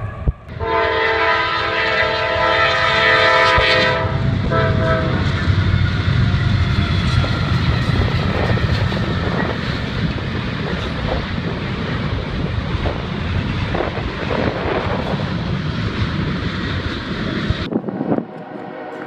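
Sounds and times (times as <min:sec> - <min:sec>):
freight train passing: 0:00.0 - 0:19.0
wheels rumbling on rails: 0:01.6 - 0:19.0.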